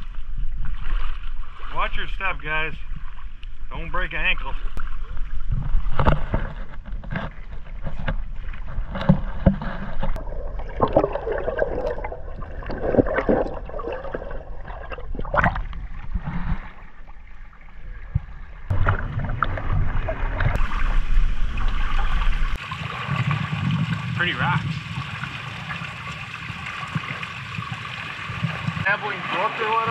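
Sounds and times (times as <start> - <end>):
low steady rumble: 0.0 - 29.2
water splashing from wading: 0.0 - 29.9.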